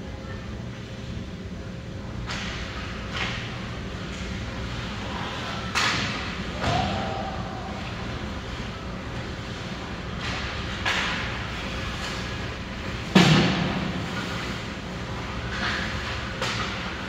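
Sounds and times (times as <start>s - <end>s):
steady low hum: 0.0s - 17.0s
hockey sticks and puck cracking: 2.2s - 6.9s, 7.8s - 17.0s.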